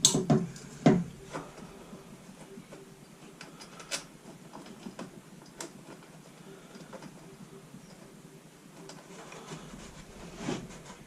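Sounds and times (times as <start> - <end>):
faint handling noise: 0.4 - 11.0.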